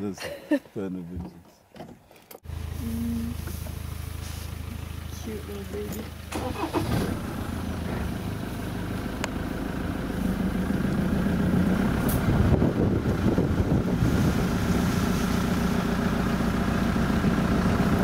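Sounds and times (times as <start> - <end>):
vehicle engine running: 2.4 - 18.0.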